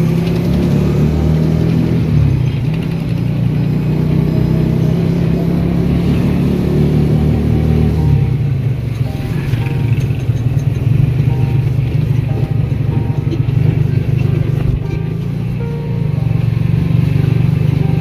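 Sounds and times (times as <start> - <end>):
road noise: 0.0 - 18.0
small vehicle engine running: 0.0 - 18.0.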